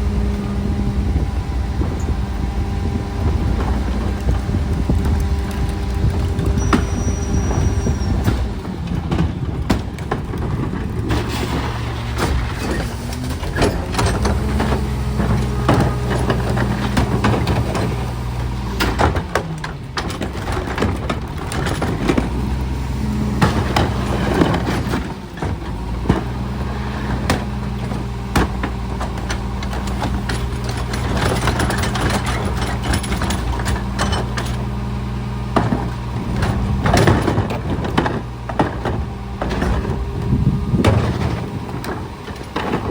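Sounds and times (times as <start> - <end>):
garbage truck engine running: 0.0 - 42.9
clanks and knocks: 1.2 - 42.9.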